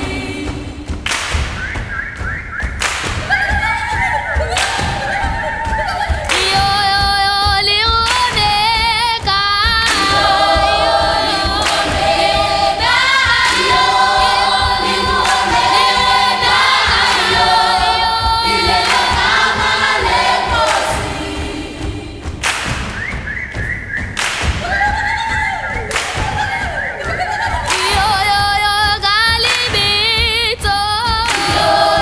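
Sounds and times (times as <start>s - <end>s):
children's choir singing: 0.0s - 32.0s
rhythmic thuds: 0.0s - 32.0s.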